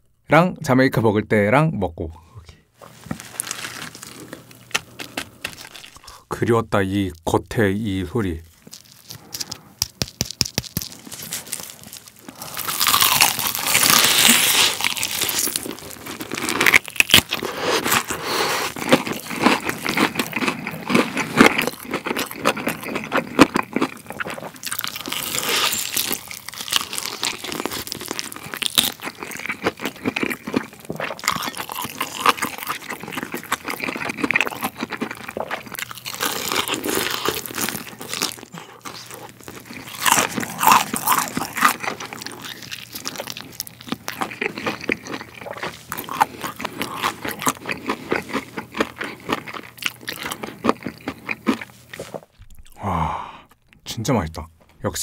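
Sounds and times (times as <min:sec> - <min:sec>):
crunching bites of fried chicken: 0:03.2 - 0:06.2, 0:08.5 - 0:52.8
chewing: 0:03.3 - 0:06.2, 0:08.5 - 0:52.8.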